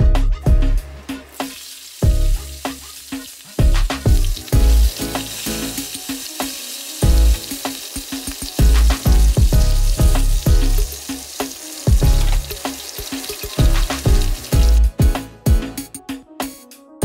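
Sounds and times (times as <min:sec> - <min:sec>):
oil sizzling and spattering: 0:00.8 - 0:15.2.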